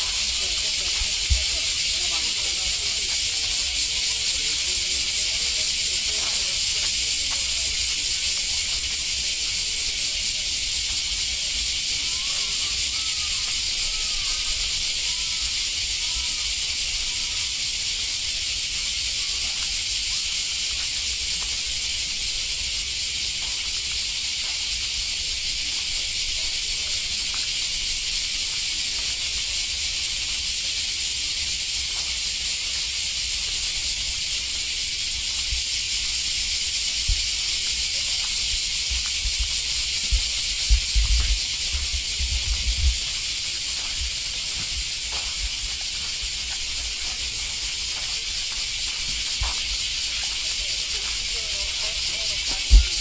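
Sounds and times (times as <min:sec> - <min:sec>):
loud high-pitched hiss: 0:00.0 - 0:53.0.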